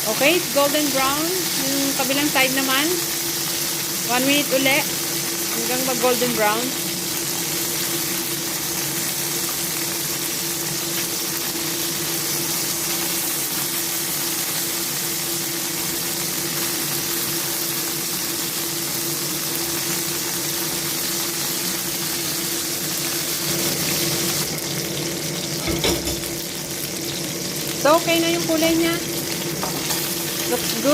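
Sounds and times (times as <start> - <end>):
chicken sizzling in frying oil: 0.0 - 30.9.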